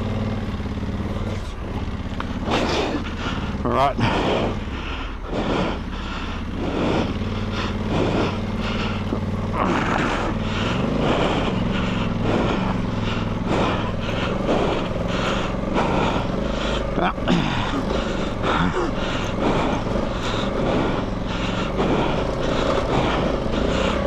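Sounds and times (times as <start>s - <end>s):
motorcycle knocking and rattling: 0.0s - 3.9s, 5.9s - 24.0s
motorcycle engine at low revs: 0.0s - 24.0s.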